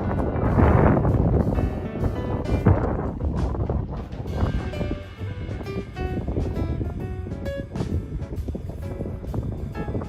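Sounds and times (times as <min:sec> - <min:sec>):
background music: 0:00.0 - 0:10.0
wind buffeting microphone: 0:00.0 - 0:10.0.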